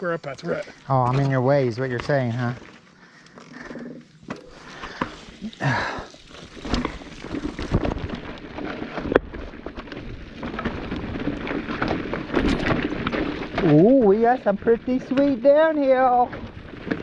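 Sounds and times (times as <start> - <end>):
mountain bike rattling over rocks: 0.2 - 17.0.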